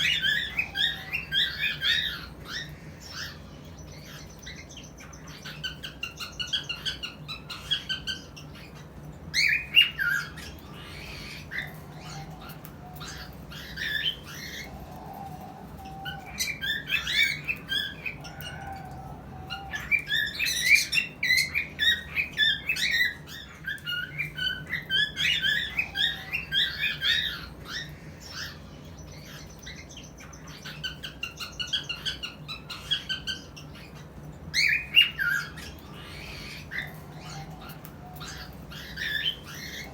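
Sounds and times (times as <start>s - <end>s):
cockatiel chirping and squawking: 0.0s - 39.9s.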